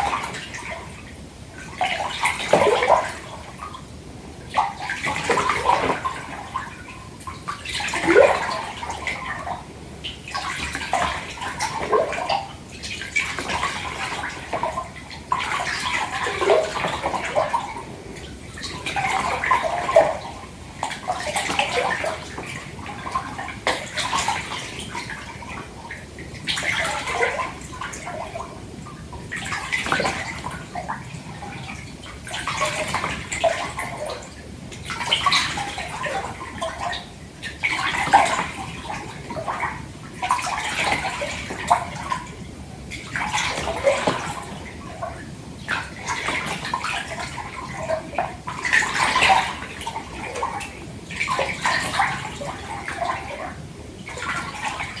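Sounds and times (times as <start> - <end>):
water gurgling: 0.0 - 55.0
water sloshing in a bathtub: 0.0 - 55.0.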